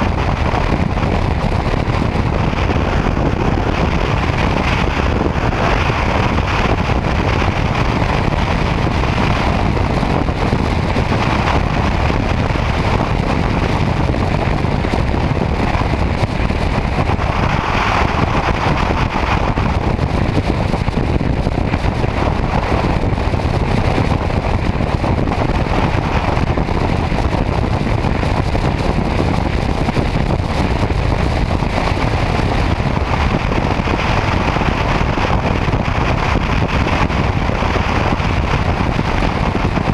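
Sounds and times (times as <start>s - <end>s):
wind rush and road noise: 0.0s - 39.9s.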